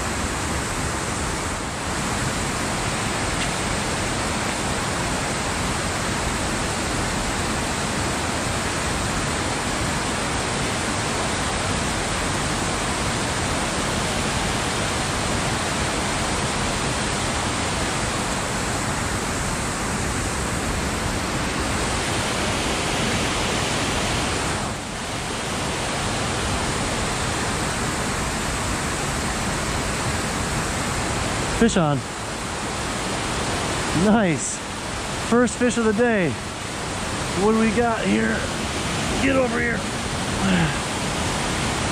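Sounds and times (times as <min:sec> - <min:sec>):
water rushing over waterfall: 0:00.0 - 0:41.9.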